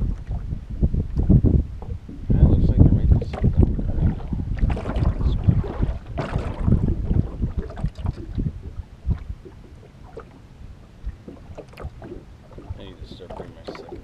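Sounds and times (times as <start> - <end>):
water lapping against hull: 0.0 - 14.0
wind buffeting microphone: 0.0 - 14.0.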